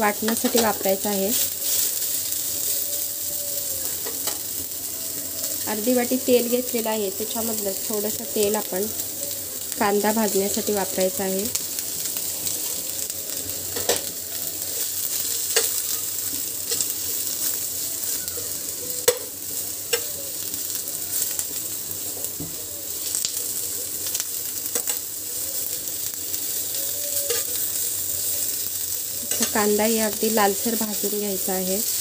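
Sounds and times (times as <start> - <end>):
onions sizzling in a frying pan: 0.0 - 32.0.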